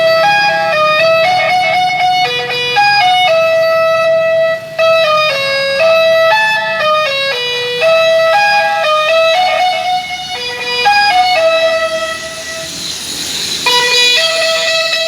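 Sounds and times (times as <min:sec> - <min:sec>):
electric horn playing melody: 0:00.0 - 0:15.0.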